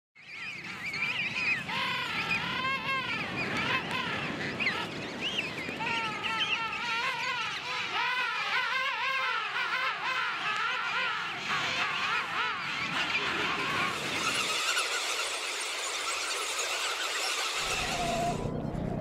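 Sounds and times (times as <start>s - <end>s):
penguin colony calling: 0.5s - 18.5s.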